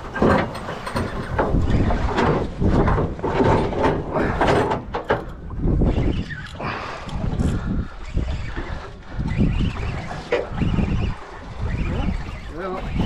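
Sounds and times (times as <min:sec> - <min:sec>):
fishing rod and reel rustling: 0:00.0 - 0:13.0
wind buffeting microphone: 0:00.0 - 0:13.0.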